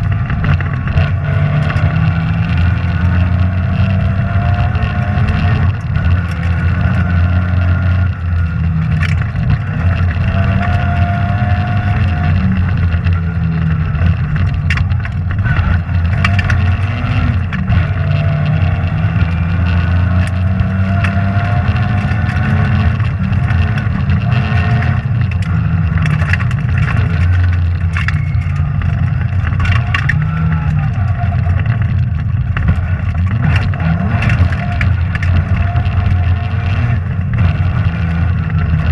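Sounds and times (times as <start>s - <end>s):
rally car engine revving: 0.0s - 38.9s.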